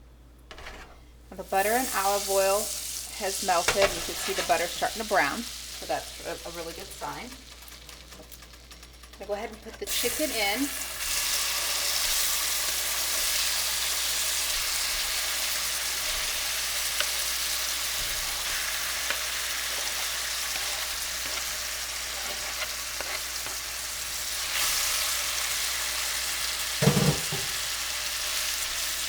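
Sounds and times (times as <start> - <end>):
chicken sizzling in a pan: 1.5 - 29.0.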